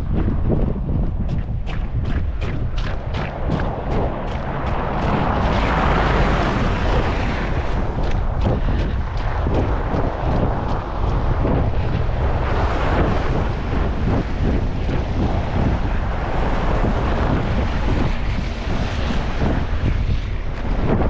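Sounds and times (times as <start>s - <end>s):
blizzard wind buffeting microphone: 0.0s - 21.0s.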